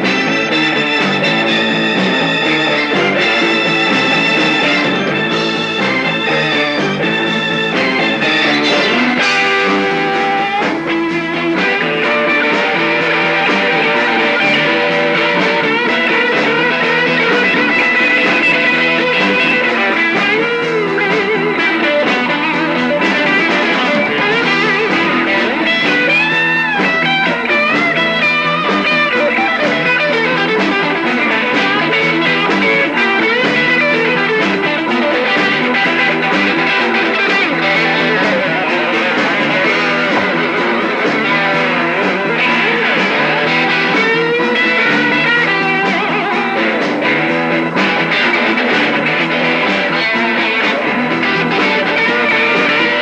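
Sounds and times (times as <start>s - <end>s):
electric guitar: 0.0s - 53.0s
rock band playing: 0.0s - 53.0s.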